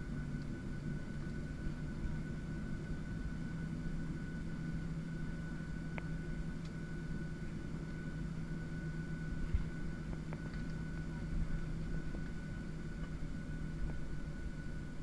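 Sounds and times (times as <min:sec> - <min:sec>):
jet engines droning: 0:00.0 - 0:15.0
thin steady whine: 0:00.0 - 0:15.0.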